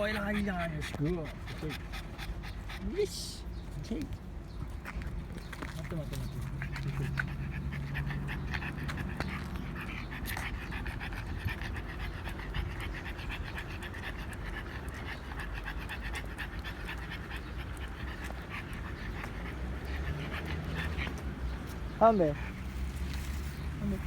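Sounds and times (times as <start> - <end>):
dog panting: 0.0 - 24.0.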